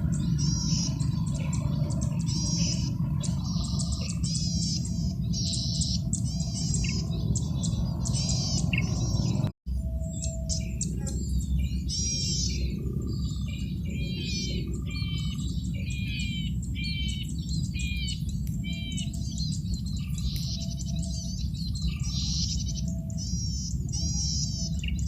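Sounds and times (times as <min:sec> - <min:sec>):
bird twittering song: 0:00.0 - 0:25.0
steady low hum: 0:00.0 - 0:25.0.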